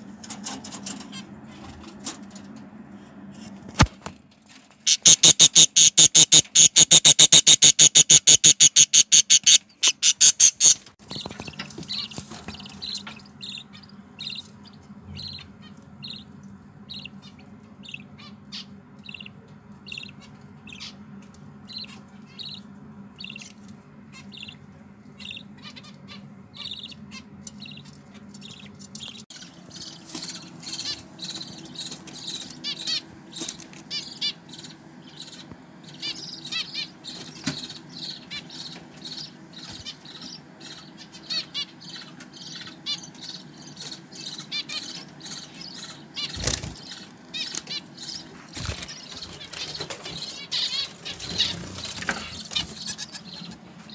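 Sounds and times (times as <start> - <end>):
chicks peeping: 4.9 - 53.9
nestlings chattering: 4.9 - 53.9.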